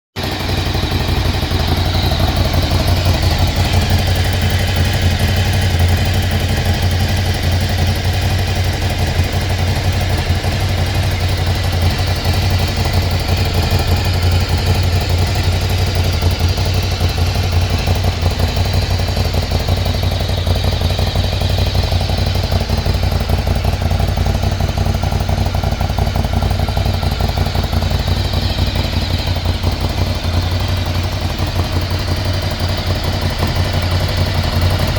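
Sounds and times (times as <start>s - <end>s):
motorcycle engine idling: 0.2s - 34.9s.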